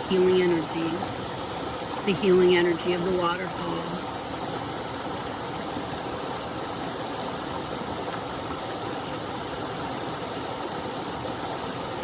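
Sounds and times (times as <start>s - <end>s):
waterfall pouring: 0.0s - 12.0s.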